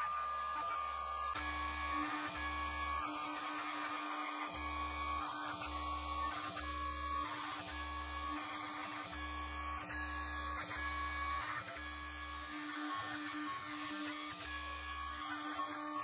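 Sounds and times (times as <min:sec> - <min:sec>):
steady machine hum: 0:00.0 - 0:16.0
stepper motors whirring: 0:00.0 - 0:16.0.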